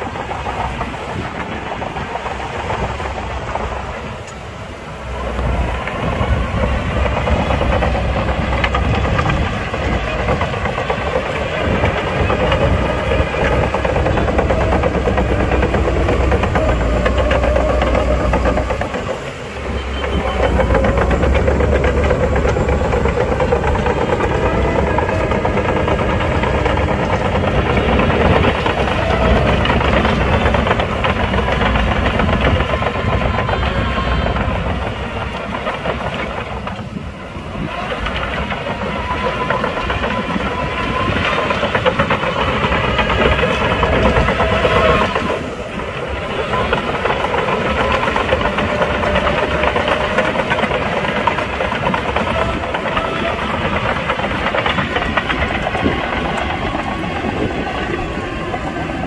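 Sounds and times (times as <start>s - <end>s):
diesel earthmoving machinery engine: 0.0s - 59.0s.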